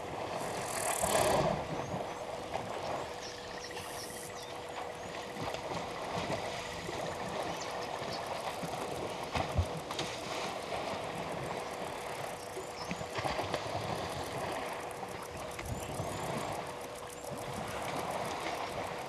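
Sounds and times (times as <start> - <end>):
faint steady hum: 0.0 - 19.0
water splashing and gurgling: 0.0 - 19.0.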